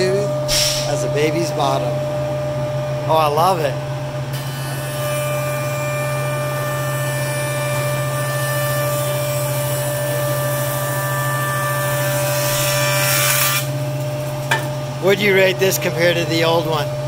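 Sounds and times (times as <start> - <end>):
jointer motor humming with whine: 0.0 - 17.0.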